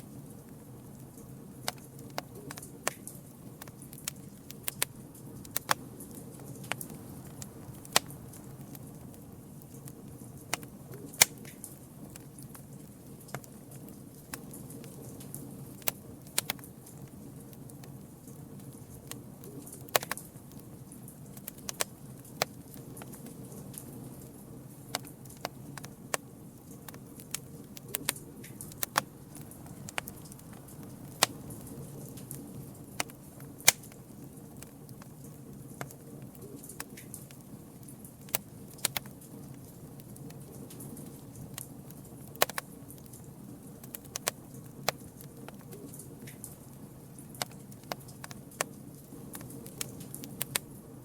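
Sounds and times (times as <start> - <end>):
campfire low rush: 0.0 - 51.0
burning wood popping and snapping: 0.3 - 50.8.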